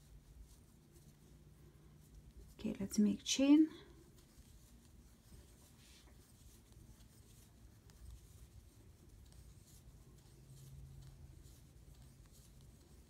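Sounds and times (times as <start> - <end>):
faint yarn rustling: 0.0 - 13.0.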